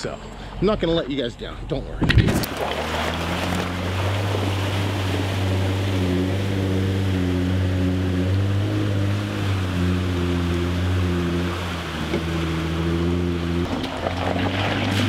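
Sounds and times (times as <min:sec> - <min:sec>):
low engine drone: 0:00.0 - 0:15.0
water rushing and churning: 0:02.1 - 0:15.0.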